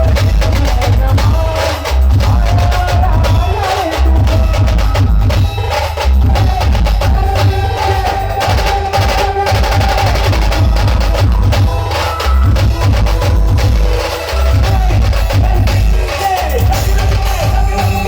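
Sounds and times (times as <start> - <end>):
bass drum and percussion beats: 0.0 - 18.0
brass melody: 0.0 - 18.0.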